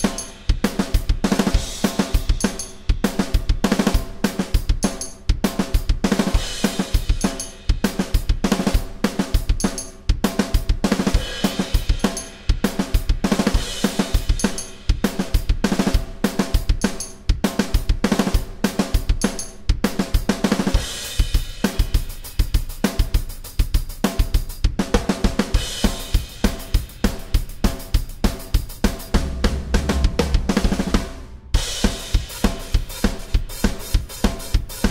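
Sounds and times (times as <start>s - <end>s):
electronic drum kit rock groove: 0.0s - 34.9s.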